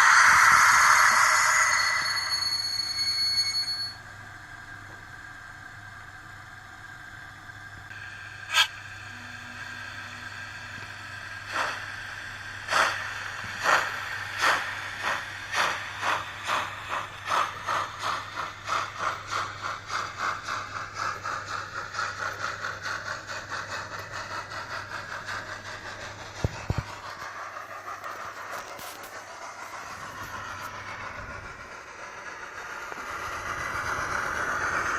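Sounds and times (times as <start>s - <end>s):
steady whine: 0.0s - 4.0s, 7.9s - 34.9s
steam locomotive chuffing from loudspeaker: 0.0s - 4.0s, 7.9s - 34.9s.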